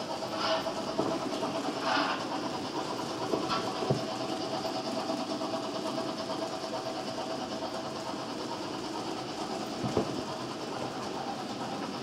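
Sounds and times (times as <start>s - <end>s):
model train motors whirring: 0.0s - 12.0s
small wheels rattling on rails: 0.0s - 12.0s.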